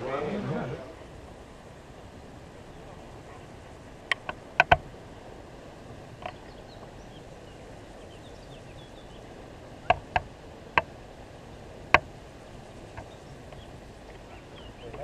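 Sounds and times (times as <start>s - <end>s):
faint birdsong chirps: 0.0s - 15.0s
steady low hiss: 0.0s - 15.0s.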